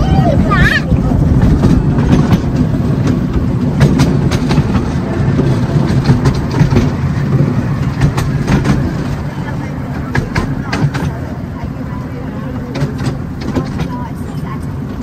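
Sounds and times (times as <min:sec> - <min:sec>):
carriage wheels rumbling: 0:00.0 - 0:15.0
wheels clicking over track: 0:00.0 - 0:15.0.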